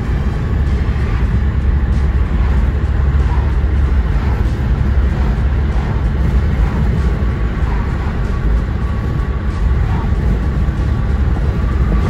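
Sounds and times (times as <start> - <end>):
car engine: 0.0 - 12.0
road and tyre noise: 0.0 - 12.0.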